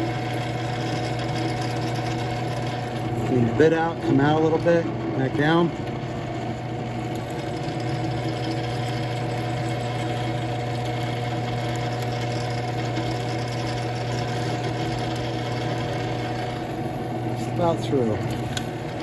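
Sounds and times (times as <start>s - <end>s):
drill bit cutting steel: 0.0s - 19.0s
drill press motor hum: 0.0s - 19.0s.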